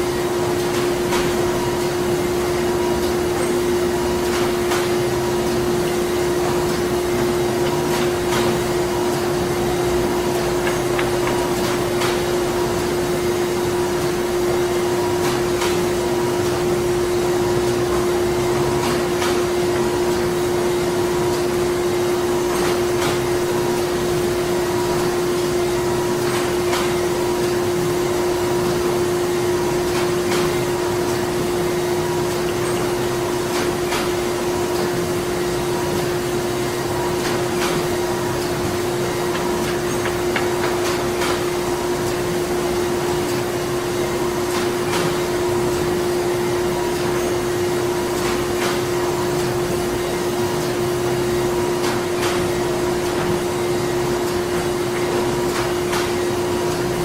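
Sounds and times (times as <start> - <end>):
machinery droning hum: 0.0 - 57.0.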